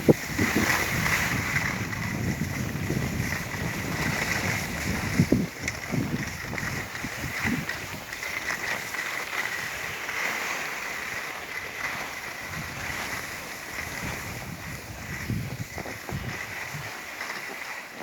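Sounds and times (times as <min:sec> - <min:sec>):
skis scraping over snow: 0:00.0 - 0:18.0
wind on microphone: 0:00.0 - 0:18.0.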